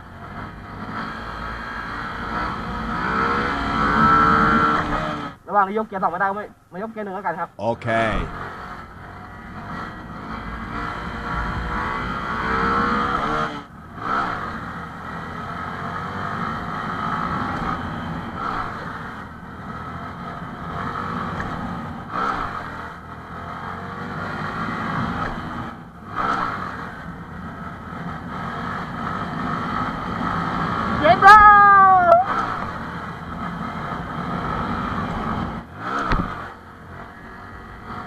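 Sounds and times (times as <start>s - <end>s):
motorcycle engine revving hard: 0.1s - 5.4s, 8.3s - 38.0s.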